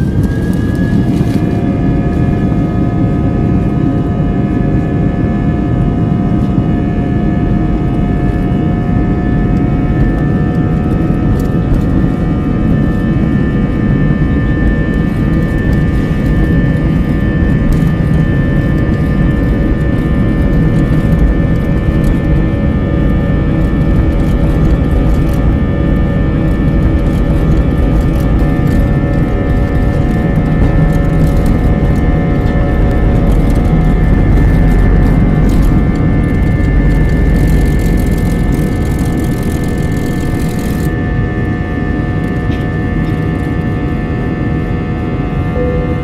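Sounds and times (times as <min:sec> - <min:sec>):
jet engines at take-off thrust: 0:00.0 - 0:46.0.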